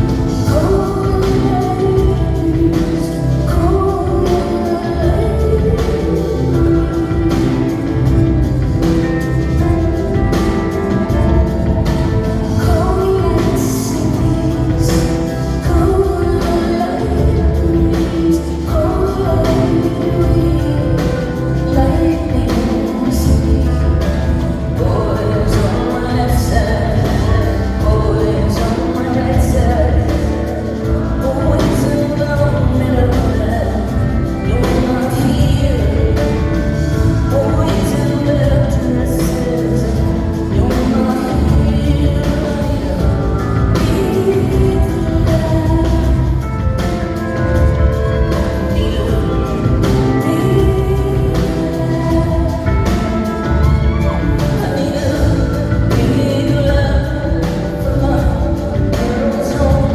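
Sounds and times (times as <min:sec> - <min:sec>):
bass line: 0:00.0 - 0:59.9
drums: 0:00.0 - 0:59.9
keyboards: 0:00.0 - 0:59.9
woman singing: 0:00.0 - 0:59.9.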